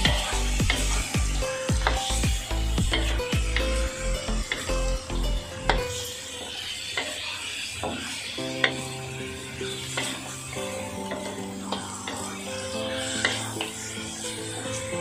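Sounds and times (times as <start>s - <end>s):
chicken sizzling in a wok: 0.0s - 15.0s
spatula scraping a pan: 0.0s - 15.0s.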